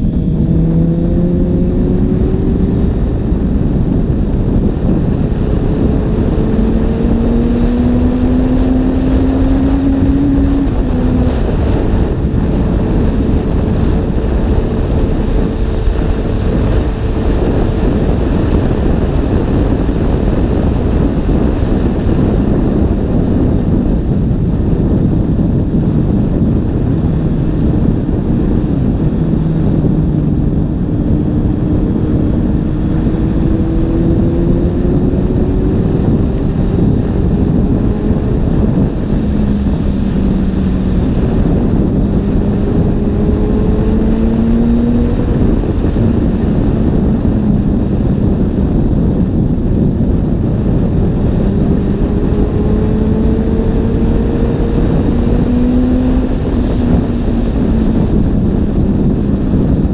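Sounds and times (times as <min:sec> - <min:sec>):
motorcycle engine: 0:00.0 - 0:59.9
wind noise on microphone: 0:00.0 - 0:59.9.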